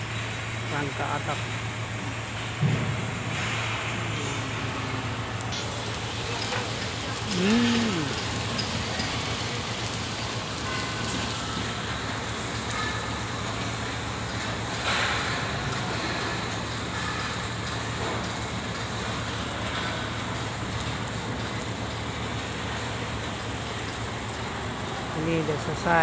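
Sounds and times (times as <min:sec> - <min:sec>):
machinery humming: 0:00.0 - 0:26.0
arc welding crackling: 0:04.2 - 0:26.0.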